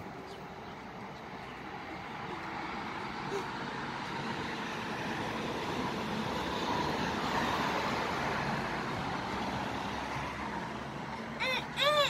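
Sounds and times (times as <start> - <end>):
road traffic noise: 0.0 - 12.0
vehicle passing: 0.0 - 12.0.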